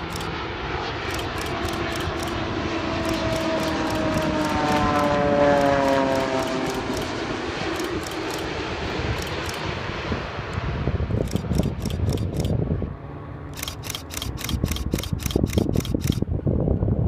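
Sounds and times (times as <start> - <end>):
jet engine whine: 0.0 - 17.0
jet rumble: 0.0 - 17.0.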